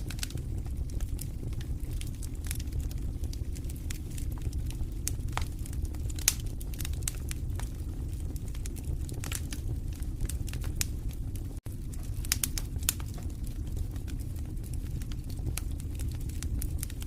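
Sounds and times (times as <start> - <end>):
fire roaring: 0.0 - 17.0
logs crackling and popping: 0.0 - 17.0.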